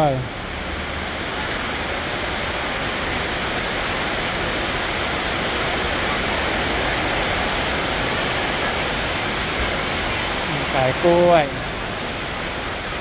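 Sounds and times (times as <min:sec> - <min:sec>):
rushing hiss of market hall: 0:00.0 - 0:13.0.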